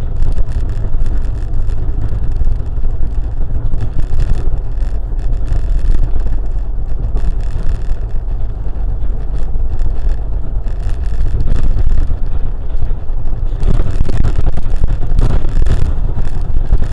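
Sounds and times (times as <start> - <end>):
road and engine rumble: 0.0 - 16.9
wind buffeting microphone: 0.0 - 16.9.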